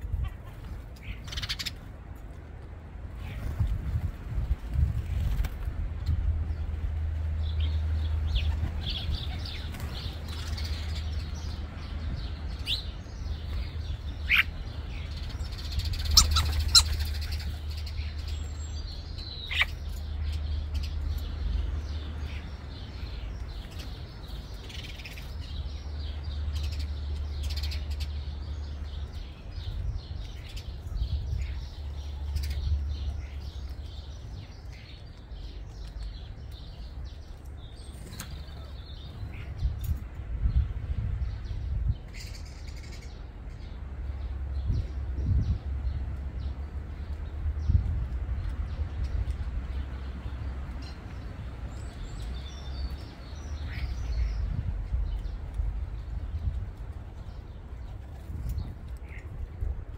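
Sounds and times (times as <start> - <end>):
starlings chattering and calling: 0.0 - 2.1, 7.4 - 59.9.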